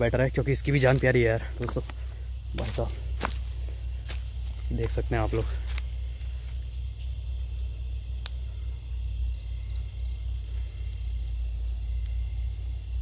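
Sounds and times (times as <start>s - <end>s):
crickets chirping: 0.0s - 13.0s
low microphone rumble: 0.0s - 13.0s.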